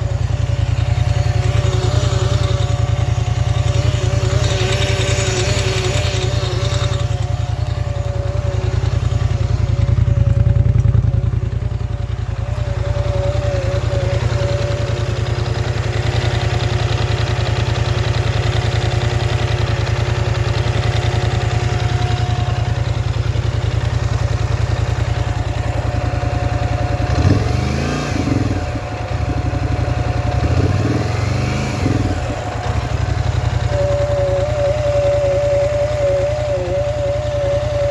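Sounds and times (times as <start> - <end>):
engine idling and revving: 0.0 - 37.9
wavering whine: 0.0 - 37.9.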